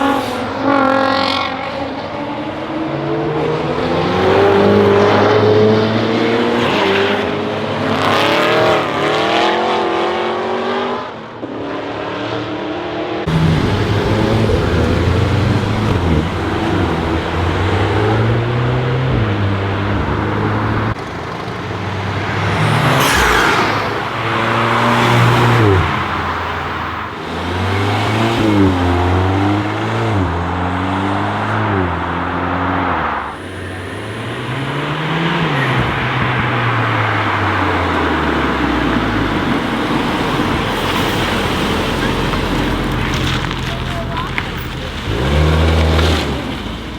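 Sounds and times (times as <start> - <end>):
car engine accelerating hard: 0.0 - 46.9.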